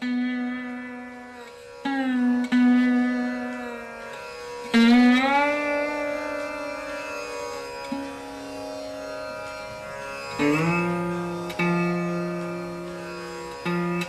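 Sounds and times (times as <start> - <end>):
plucked string instrument notes: 0.0 - 14.0.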